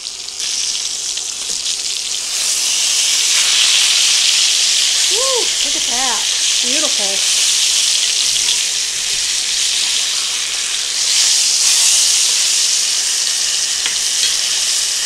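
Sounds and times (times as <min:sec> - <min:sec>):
pork chops sizzling in oil: 0:00.0 - 0:15.0.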